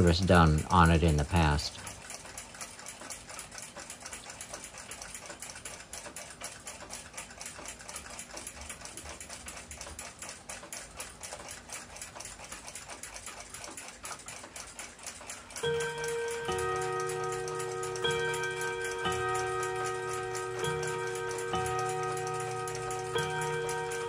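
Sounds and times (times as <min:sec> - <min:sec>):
clock ticking rapidly: 0:00.0 - 0:24.0.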